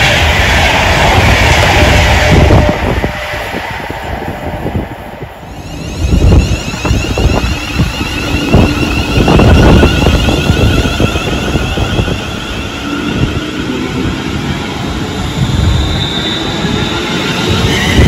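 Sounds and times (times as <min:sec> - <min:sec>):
train passing with rushing rumble: 0:00.0 - 0:18.0.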